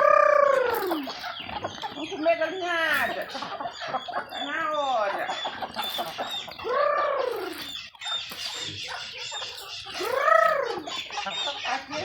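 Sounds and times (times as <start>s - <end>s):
hens clucking: 0.0s - 12.0s
high chirping: 0.0s - 12.0s
loud drawn-out poultry calls: 0.0s - 12.0s.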